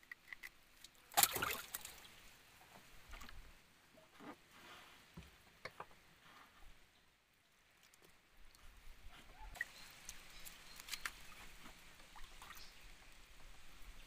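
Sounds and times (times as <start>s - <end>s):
water splashing and sloshing: 0.0s - 6.0s, 6.6s - 14.0s.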